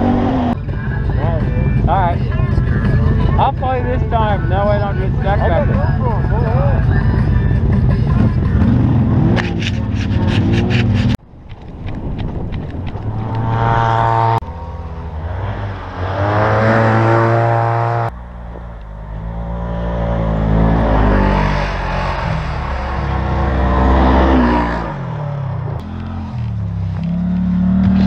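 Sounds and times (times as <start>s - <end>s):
quad engine accelerating: 0.0s - 0.6s, 2.8s - 11.2s, 12.9s - 28.0s.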